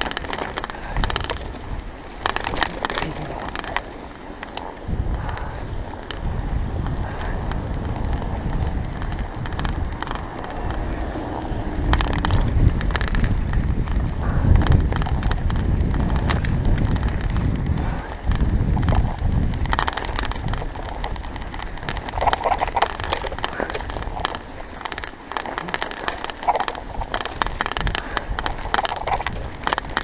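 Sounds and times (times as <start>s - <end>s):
bicycle clicks: 0.0s - 30.0s
bicycle tyres rumbling on snow: 0.0s - 30.0s
wind buffeting microphone: 0.0s - 30.0s.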